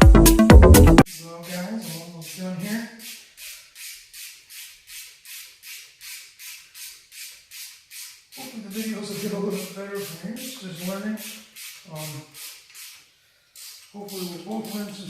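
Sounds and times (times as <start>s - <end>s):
rhythmic rubbing strokes: 0.0s - 15.0s.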